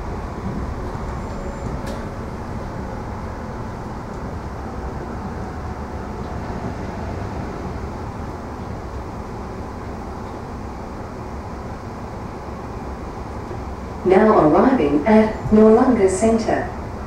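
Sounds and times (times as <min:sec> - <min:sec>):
train carriage rumble: 0:00.0 - 0:17.0
train wheels on rails: 0:00.0 - 0:17.0.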